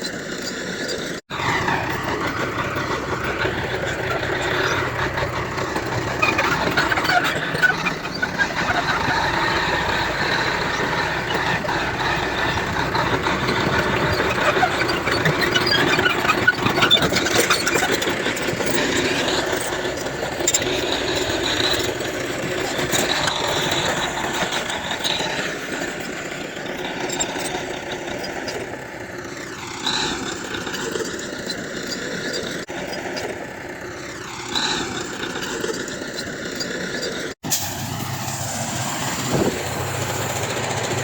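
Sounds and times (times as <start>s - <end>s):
metallic squealing and clanking: 0.0s - 37.7s
heavy machinery engine under load: 0.0s - 41.0s.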